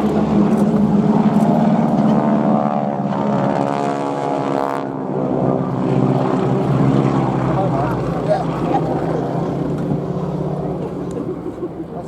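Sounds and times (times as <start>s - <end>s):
biplane engine and propeller droning: 0.0s - 12.0s.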